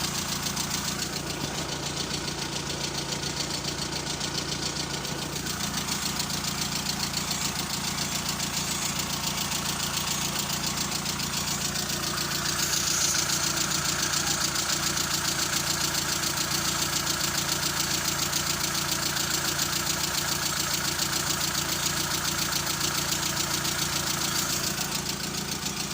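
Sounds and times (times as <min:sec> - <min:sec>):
engine running with fast rattle: 0:00.0 - 0:25.9.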